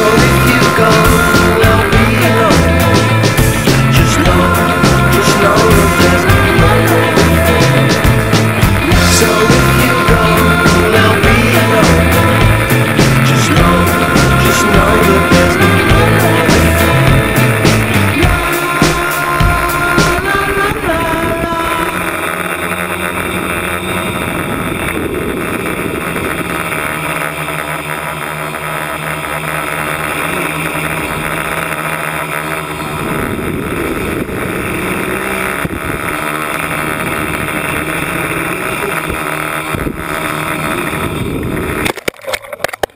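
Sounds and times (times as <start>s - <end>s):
wind rushing over microphone: 0.0s - 27.6s, 32.6s - 41.9s
drone motors and propellers whining: 0.0s - 42.9s.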